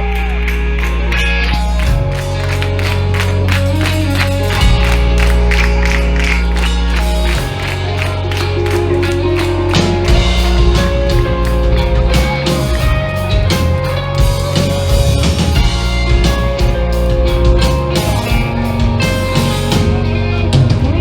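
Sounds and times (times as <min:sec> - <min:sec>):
bass notes: 0:00.0 - 0:21.0
live rock band playing: 0:00.0 - 0:21.0.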